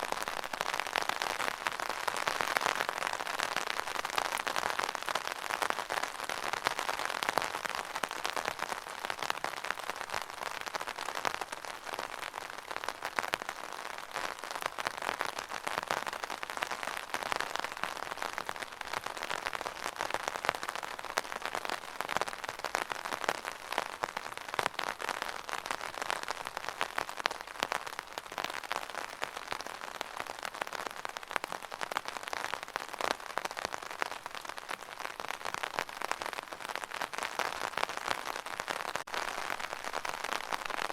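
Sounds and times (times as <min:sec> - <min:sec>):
rain pattering on umbrella: 0:00.0 - 0:40.9.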